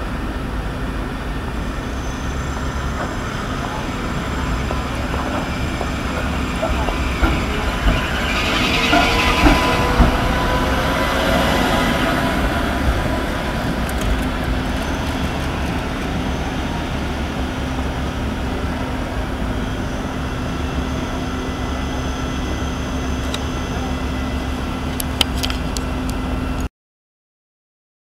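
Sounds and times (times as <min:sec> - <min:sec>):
low hum: 0:00.0 - 0:26.7
tram and street rumble: 0:00.0 - 0:26.7.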